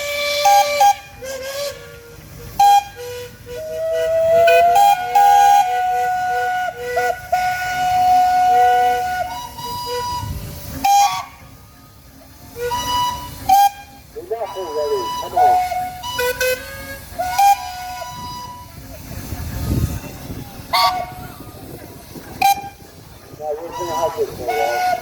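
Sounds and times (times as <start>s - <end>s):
steam whistles blowing: 0.0s - 25.0s.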